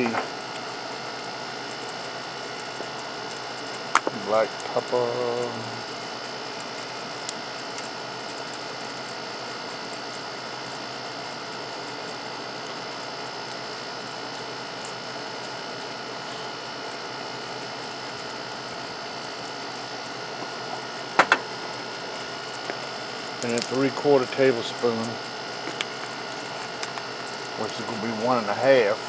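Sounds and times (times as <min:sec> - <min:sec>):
mechanical whirring hum: 0:00.0 - 0:29.0.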